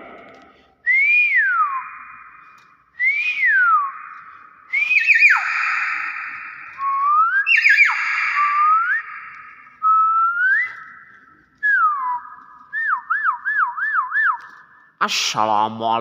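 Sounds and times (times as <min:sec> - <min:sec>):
myna whistling: 0:00.8 - 0:14.6.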